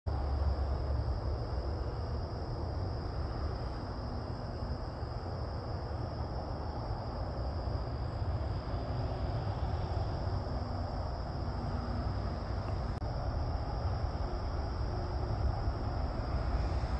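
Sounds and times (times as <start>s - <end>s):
insects chorus: 0.1s - 16.9s.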